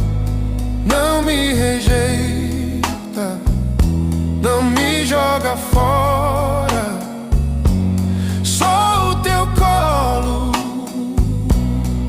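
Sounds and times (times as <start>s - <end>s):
bass notes: 0.0s - 12.0s
person singing: 0.8s - 3.8s, 4.4s - 12.0s.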